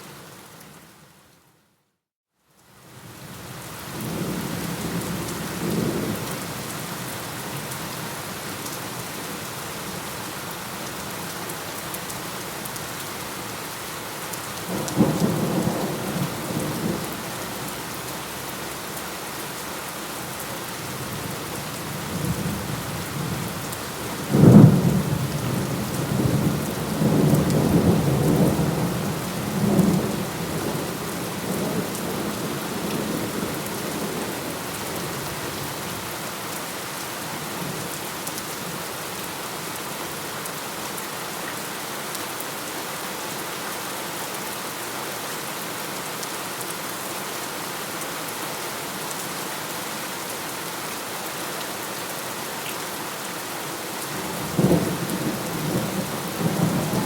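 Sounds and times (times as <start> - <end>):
heavy rain: 2.6 - 57.0.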